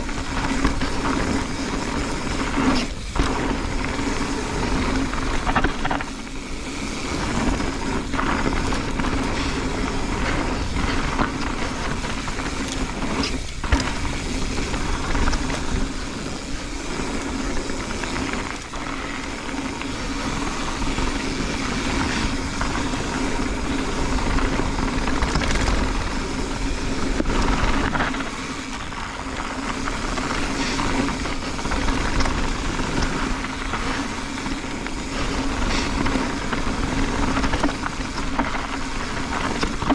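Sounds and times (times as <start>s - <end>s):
bike knocks and rattles: 0.0s - 39.9s
bike tyres rumbling over gravel: 0.0s - 39.9s.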